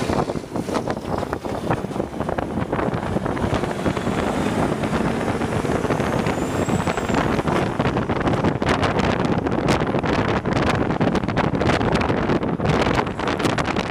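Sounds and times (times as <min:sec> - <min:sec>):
truck diesel engine drone: 0:00.0 - 0:13.9
tyre and wind noise: 0:00.0 - 0:13.9.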